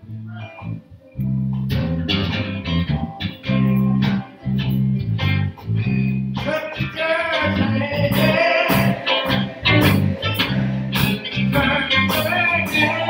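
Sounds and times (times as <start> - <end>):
electric bass guitar: 0.0 - 13.0
plucked electric guitar: 0.0 - 13.0.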